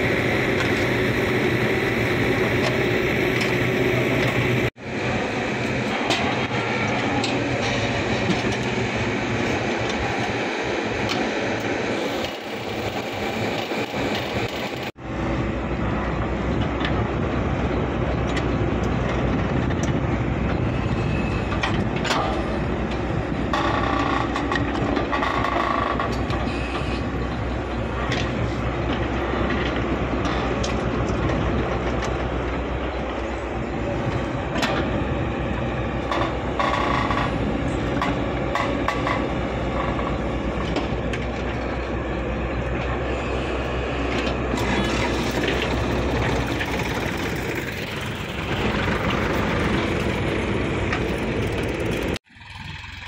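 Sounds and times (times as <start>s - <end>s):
diesel engines running: 0.0s - 53.0s.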